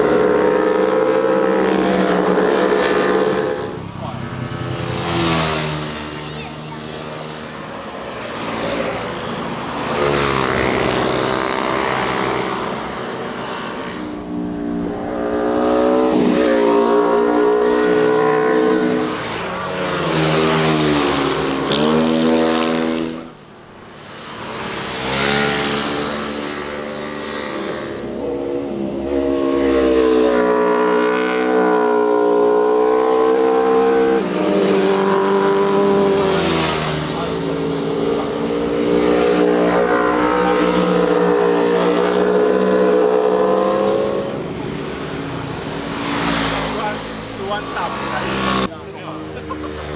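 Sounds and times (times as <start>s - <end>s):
motorcycles riding past: 0.0s - 49.9s.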